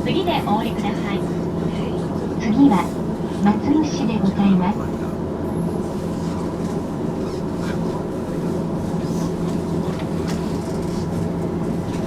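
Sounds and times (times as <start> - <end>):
streetcar hum and rumble: 0.0 - 12.0.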